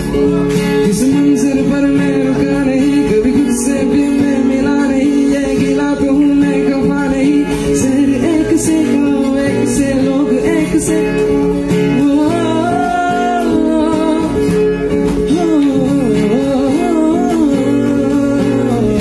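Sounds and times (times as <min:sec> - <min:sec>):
acoustic guitar chords: 0:00.0 - 0:19.0
man singing: 0:00.0 - 0:19.0.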